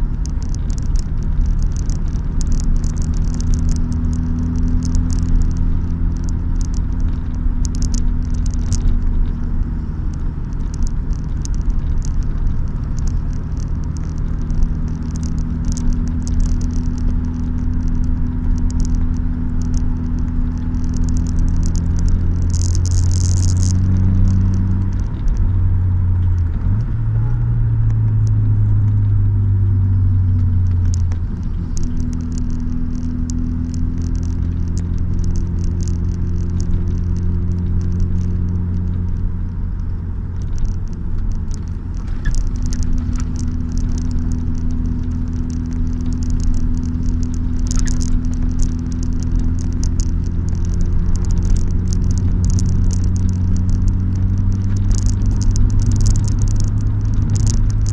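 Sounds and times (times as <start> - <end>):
car engine drone from cabin: 0.0 - 57.9
crackling: 0.0 - 57.9
road and wind noise: 0.0 - 57.9.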